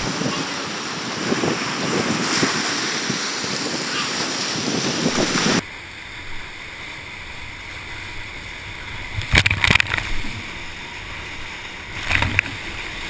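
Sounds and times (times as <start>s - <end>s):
wave splashing over raft: 0.0s - 13.0s
whitewater rapids rushing: 0.0s - 13.0s.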